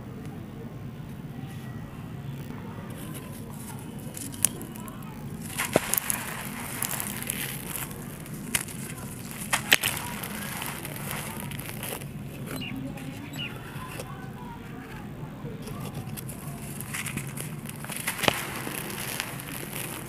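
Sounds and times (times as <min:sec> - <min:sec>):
grit pattering down: 0:02.3 - 0:20.0
sand and ash crumbling in hands: 0:02.9 - 0:20.0
chunks snapping: 0:03.0 - 0:20.0.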